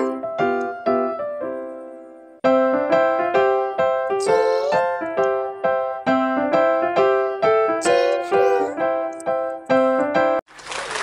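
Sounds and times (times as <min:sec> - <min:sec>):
electric piano tune: 0:00.0 - 0:10.4.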